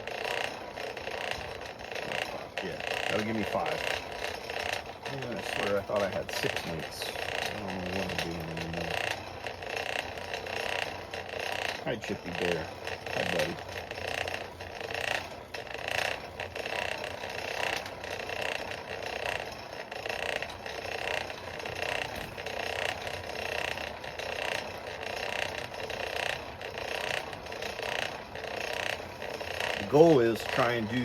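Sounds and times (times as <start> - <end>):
forge blower rushing air: 0.0 - 31.0.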